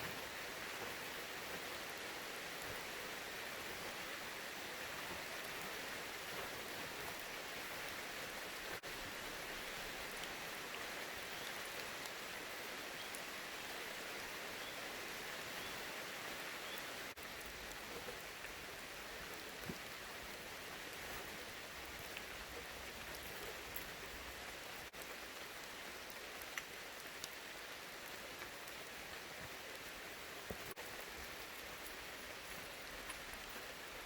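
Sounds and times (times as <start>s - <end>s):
steady rain hissing: 0.0s - 34.0s.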